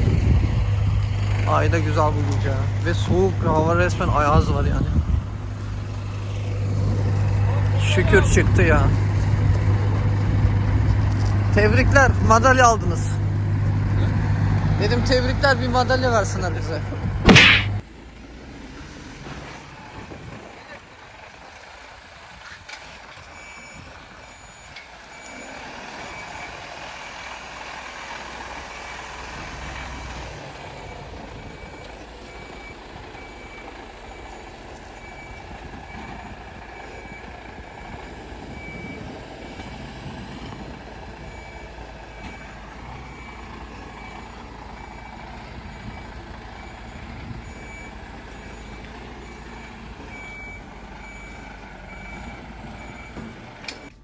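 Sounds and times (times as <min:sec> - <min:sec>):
truck back-up alarm beeping: 0:00.0 - 0:05.0, 0:06.4 - 0:17.8, 0:22.2 - 0:54.0
diesel engine running: 0:00.0 - 0:54.0.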